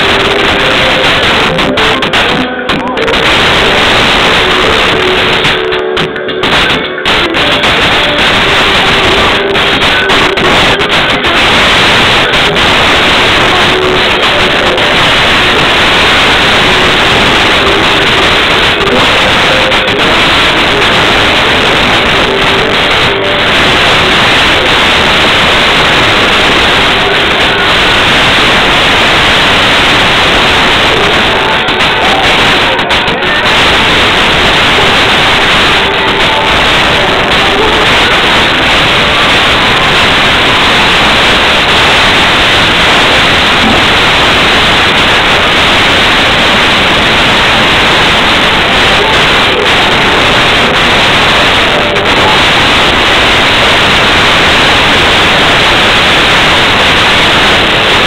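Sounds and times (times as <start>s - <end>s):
faint music: 0.0s - 58.0s
loud steady hiss: 0.0s - 58.0s.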